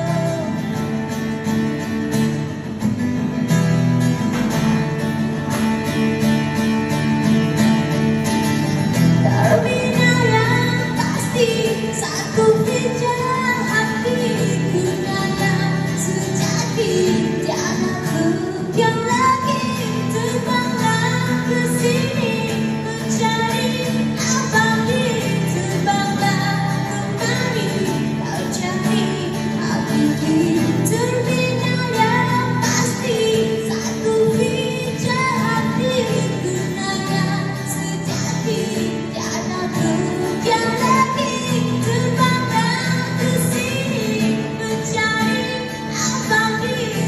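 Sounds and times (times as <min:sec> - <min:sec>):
person singing: 0:09.2 - 0:47.0.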